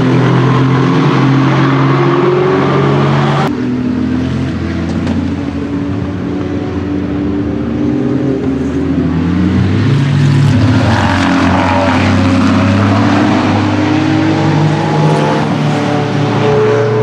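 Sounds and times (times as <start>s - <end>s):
racing car engine: 0.0s - 17.0s.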